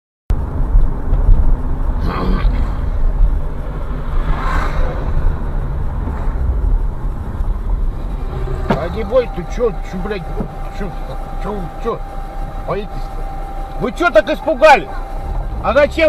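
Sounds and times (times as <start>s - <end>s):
car road and engine rumble: 0.3s - 16.0s.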